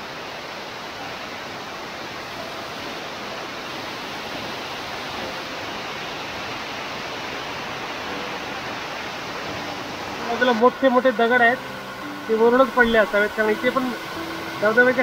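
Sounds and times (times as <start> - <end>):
waterfall pouring onto rocks: 0.0 - 15.0.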